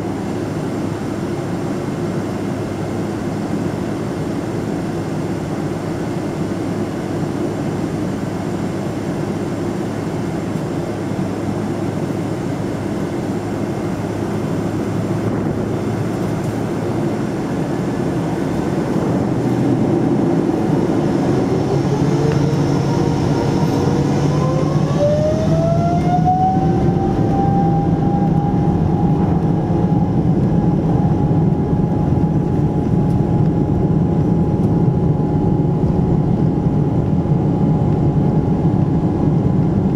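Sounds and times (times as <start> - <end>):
jet engine whine rising: 0.0 - 39.9
jet engines rumbling: 0.0 - 39.9.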